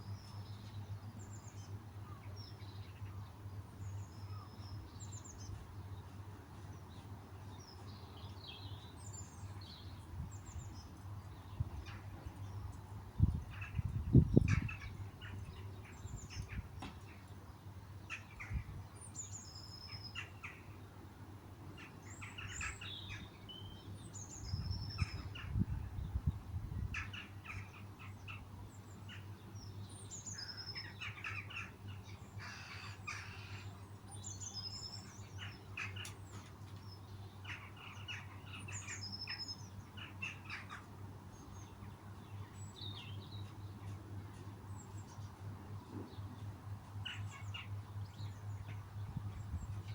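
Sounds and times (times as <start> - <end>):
birds singing and chirping: 0.0 - 20.8, 21.8 - 49.9.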